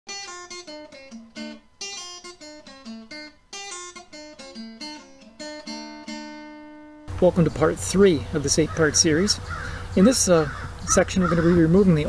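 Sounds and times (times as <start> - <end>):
acoustic guitar melody: 0.1 - 12.0.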